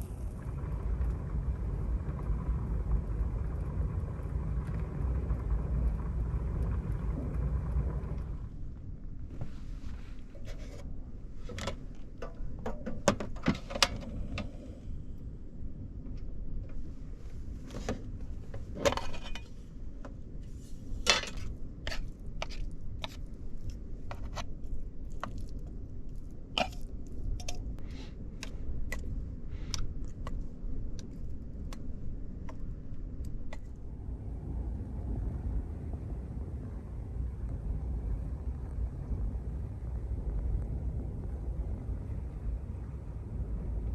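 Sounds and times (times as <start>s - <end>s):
strong wind rumble: 0.0s - 43.9s.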